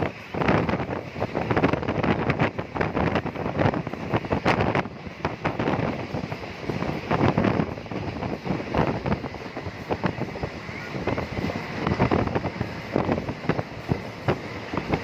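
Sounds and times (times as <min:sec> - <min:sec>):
moving vehicle on road: 0:00.0 - 0:15.0
wind buffeting microphone: 0:00.0 - 0:15.0.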